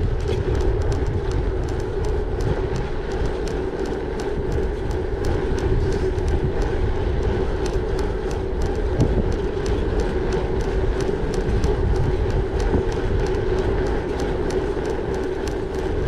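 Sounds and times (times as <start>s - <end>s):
bike tyres humming: 0.0s - 16.0s
small high ticks: 0.0s - 16.0s
wind rumbling on microphone: 0.0s - 16.0s.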